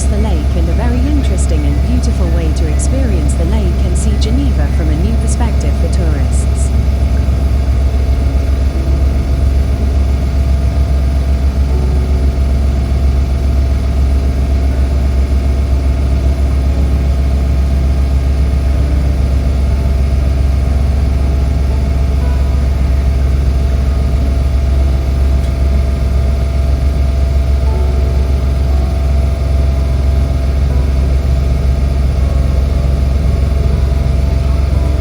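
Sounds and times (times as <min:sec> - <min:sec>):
boat engine drone: 0:00.0 - 0:35.0
faint steady hum: 0:00.0 - 0:35.0.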